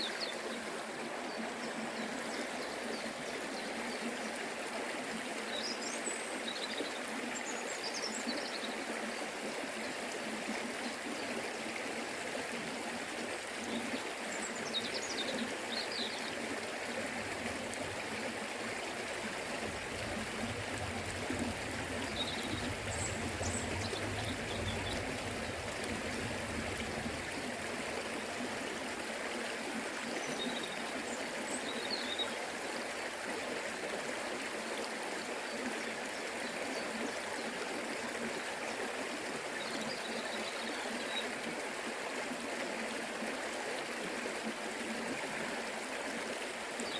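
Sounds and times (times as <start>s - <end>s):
river water rushing and gurgling: 0.0s - 46.9s.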